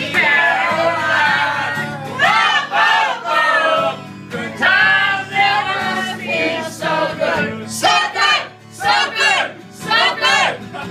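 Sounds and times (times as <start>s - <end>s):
people singing together: 0.0s - 10.9s
strummed acoustic guitar: 0.0s - 10.9s.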